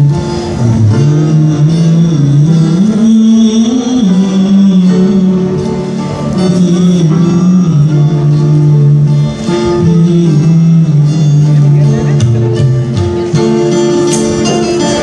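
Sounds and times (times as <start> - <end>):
acoustic guitars: 0.0 - 15.0.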